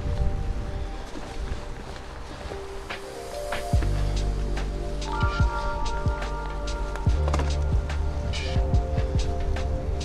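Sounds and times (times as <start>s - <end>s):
background music with sustained chords: 0.0s - 10.0s.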